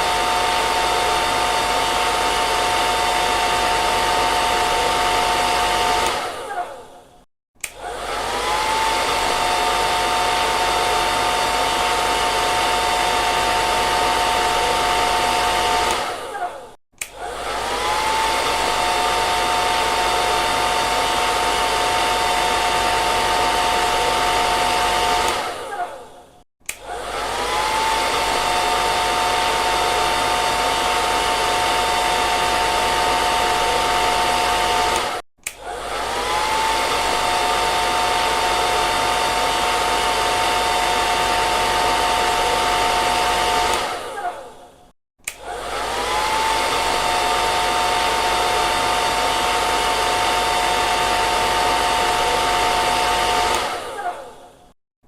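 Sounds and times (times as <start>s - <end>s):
hair dryer blowing: 0.0s - 54.8s.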